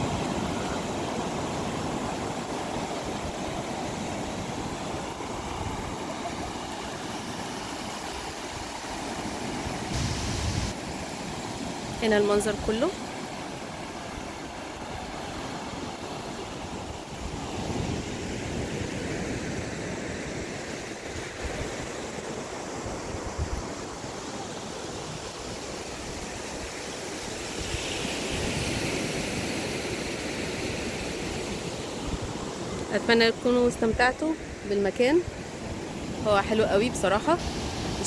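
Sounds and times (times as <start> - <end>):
ocean surf washing onto beach: 0.0 - 38.0.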